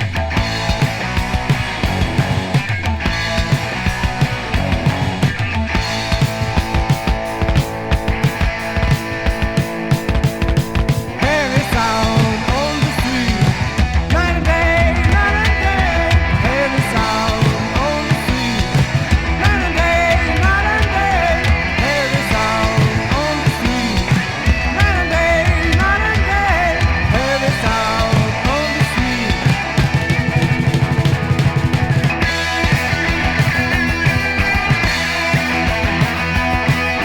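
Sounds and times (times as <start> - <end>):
bass guitar: 0.0 - 37.0
distorted electric guitars: 0.0 - 37.0
drums: 0.0 - 37.0.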